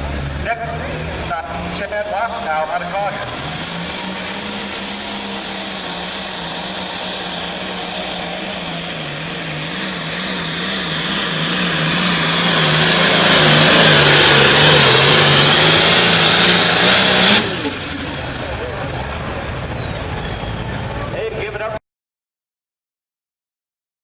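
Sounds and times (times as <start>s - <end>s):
tractor diesel engine under load: 0.0s - 21.8s.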